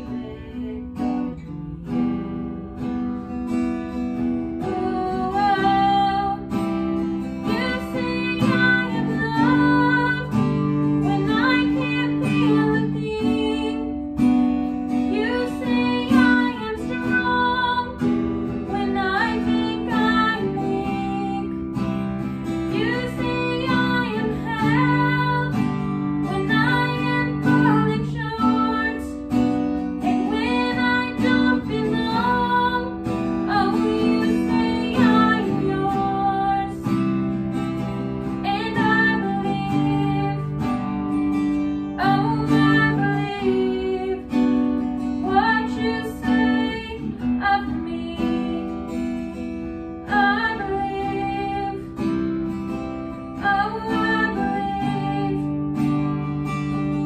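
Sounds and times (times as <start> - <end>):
woman singing slow song: 0.0 - 1.7, 4.5 - 37.2, 38.2 - 52.3, 53.2 - 55.8
strummed acoustic guitar: 0.0 - 57.0.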